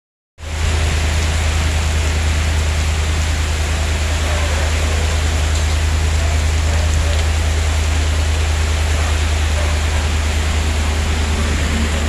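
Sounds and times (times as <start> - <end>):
heavy rain pouring: 0.4 - 12.0.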